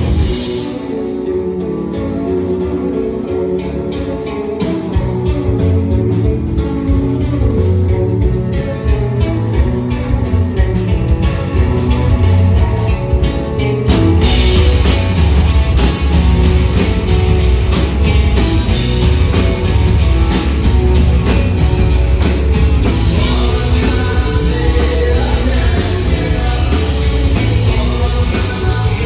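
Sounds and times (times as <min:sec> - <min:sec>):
live band playing guitar music: 0:00.0 - 0:29.0.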